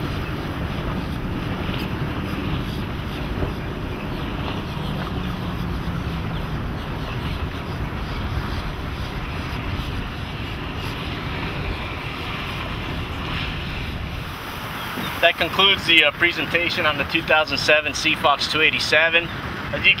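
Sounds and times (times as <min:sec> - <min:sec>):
outboard motors running: 0:00.0 - 0:20.0
wind and water rushing: 0:00.0 - 0:20.0.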